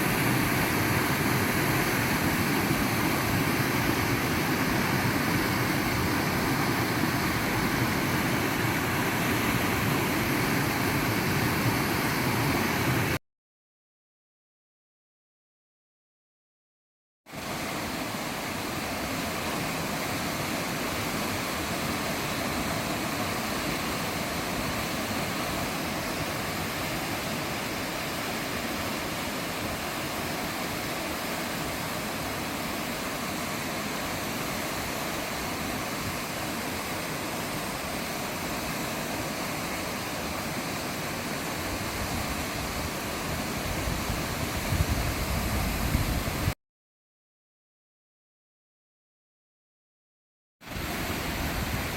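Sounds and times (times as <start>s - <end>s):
waterfall rushing: 0.0s - 13.2s, 17.3s - 46.6s, 50.7s - 51.9s.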